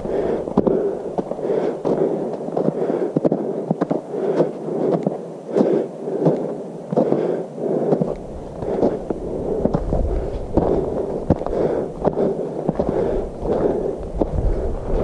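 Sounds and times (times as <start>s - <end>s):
footsteps in wet snow and mud: 0.0s - 15.0s
snow crust crackling underfoot: 0.0s - 15.0s.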